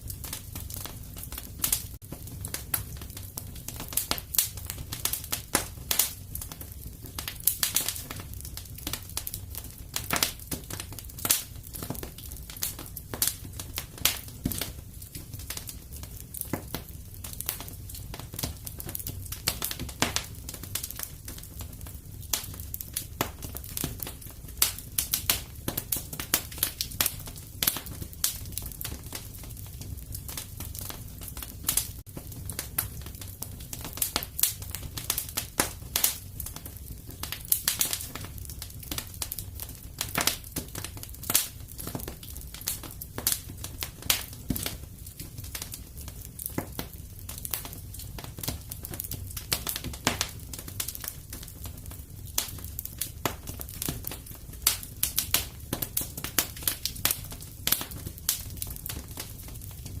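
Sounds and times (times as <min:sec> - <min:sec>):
fire crackling and popping: 0:00.0 - 1:00.0.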